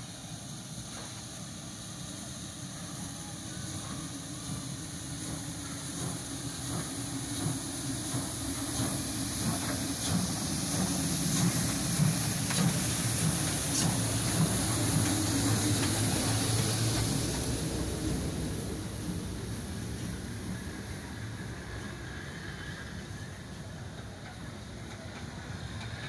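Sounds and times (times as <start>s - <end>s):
steam hissing: 0.0s - 26.0s
locomotive rumble: 0.1s - 26.0s.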